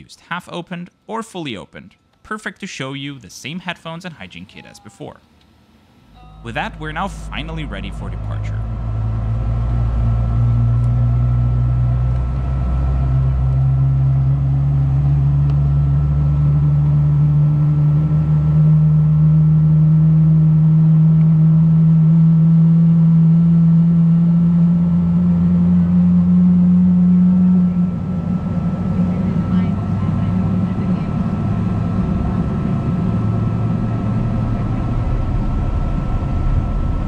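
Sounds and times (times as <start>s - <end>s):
jet engines droning in cabin: 2.0s - 37.0s.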